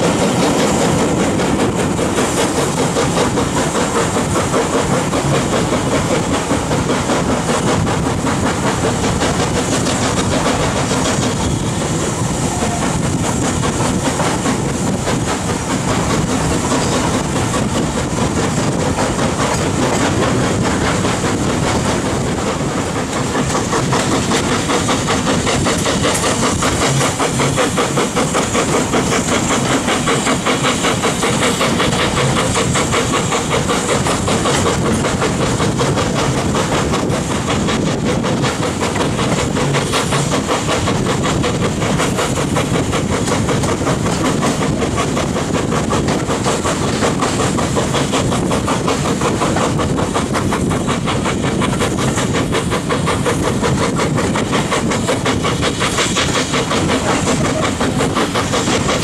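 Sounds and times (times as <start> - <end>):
carriage wheels clattering on rails: 0.0 - 59.0
steam locomotive exhaust: 0.0 - 59.0.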